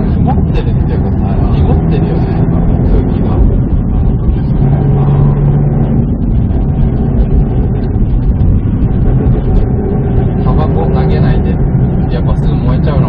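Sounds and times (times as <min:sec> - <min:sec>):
car engine running: 0:00.0 - 0:13.0
road and tyre noise: 0:00.0 - 0:13.0.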